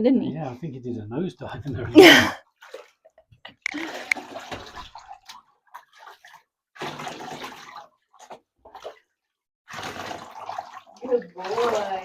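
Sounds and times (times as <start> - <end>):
water splashing in a bathtub: 1.7 - 12.0.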